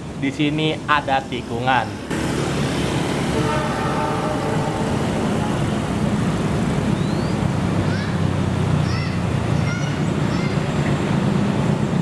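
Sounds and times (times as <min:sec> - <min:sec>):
train wheels rushing on rails: 0:01.8 - 0:12.0.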